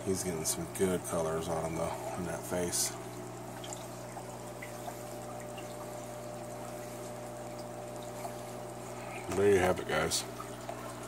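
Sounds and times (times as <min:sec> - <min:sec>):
aquarium filter hum: 0:00.0 - 0:11.0
water trickling: 0:00.0 - 0:11.0.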